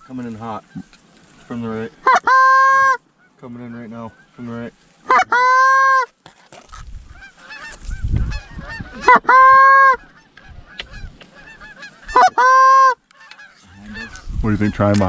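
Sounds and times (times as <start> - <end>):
faint honks and cackles of flock: 0.0 - 6.1, 6.7 - 15.0
geese honking loudly: 0.0 - 6.1, 7.1 - 15.0.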